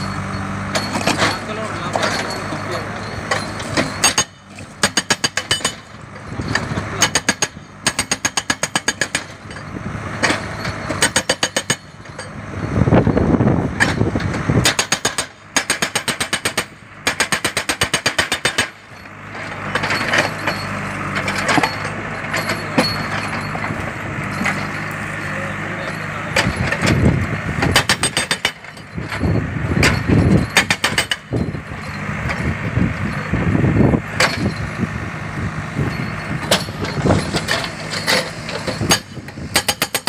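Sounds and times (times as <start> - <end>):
diesel engine running: 0.0 - 40.0
hydraulic breaker hammering: 0.1 - 40.0.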